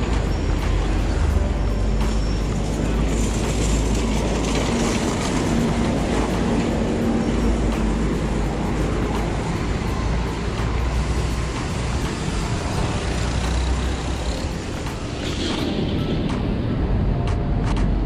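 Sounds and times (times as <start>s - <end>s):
bicycle riding rumble and wind: 0.0s - 18.0s
motor traffic: 0.0s - 18.0s.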